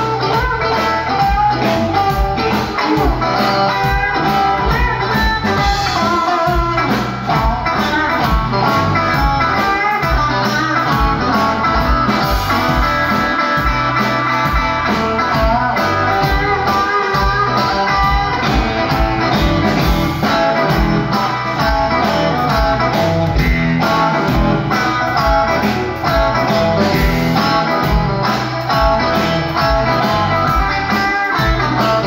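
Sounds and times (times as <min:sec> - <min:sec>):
drums: 0:00.0 - 0:32.0
electric guitar: 0:00.0 - 0:32.0.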